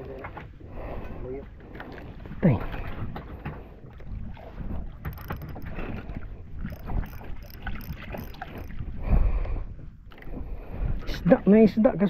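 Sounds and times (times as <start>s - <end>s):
wind rumbling on microphone: 0.0s - 11.4s
water lapping against boat: 0.0s - 12.0s.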